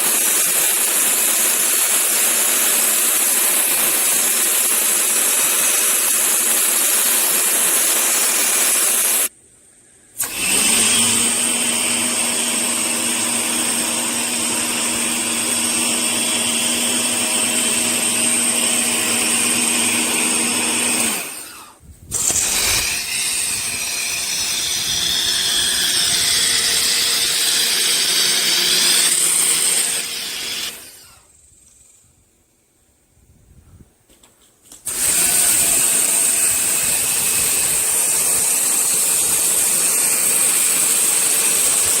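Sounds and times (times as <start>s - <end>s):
pressure washer running: 0.0s - 9.3s, 10.2s - 31.1s, 34.9s - 42.0s.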